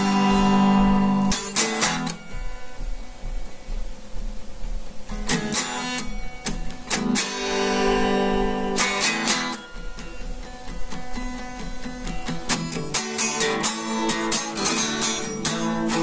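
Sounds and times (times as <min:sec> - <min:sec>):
guitar strumming: 0:00.0 - 0:16.0.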